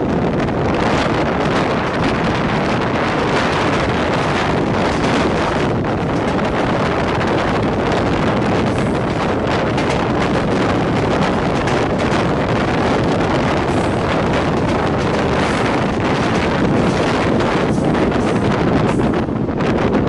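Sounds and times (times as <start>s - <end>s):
train running at speed: 0.0s - 20.0s
wind on microphone: 0.0s - 20.0s.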